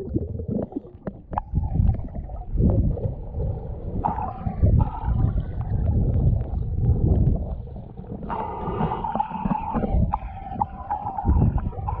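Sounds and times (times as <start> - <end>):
underwater air bubbling: 0.0 - 12.0.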